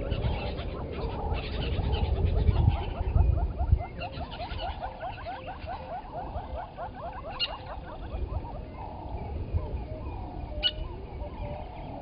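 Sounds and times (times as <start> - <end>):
animal calls: 0.0 - 12.0.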